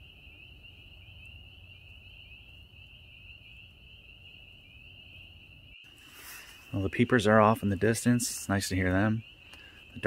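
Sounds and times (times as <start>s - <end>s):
distant chorus of peeping frogs: 0.0s - 10.0s.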